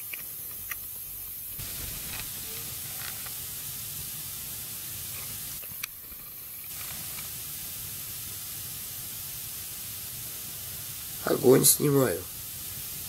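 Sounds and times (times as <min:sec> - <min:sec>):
fire crackling: 0:00.0 - 0:13.0
wood fire hissing: 0:00.0 - 0:13.0.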